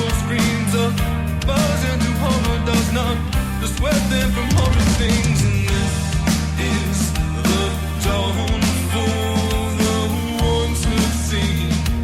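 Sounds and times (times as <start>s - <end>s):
rock song with sung vocals: 0.0s - 12.0s.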